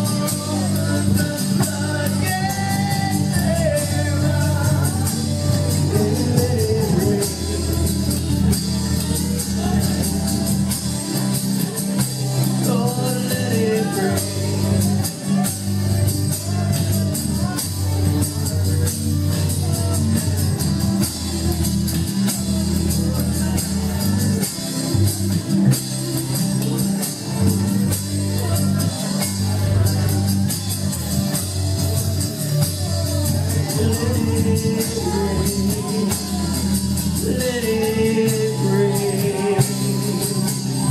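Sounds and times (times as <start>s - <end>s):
person singing: 0.0s - 40.9s
worship band playing: 0.0s - 40.9s.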